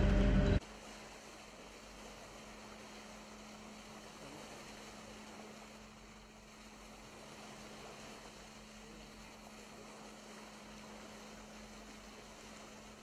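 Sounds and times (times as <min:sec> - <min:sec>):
bow wave rushing along hull: 0:00.0 - 0:13.0
low steady hum: 0:00.0 - 0:13.0.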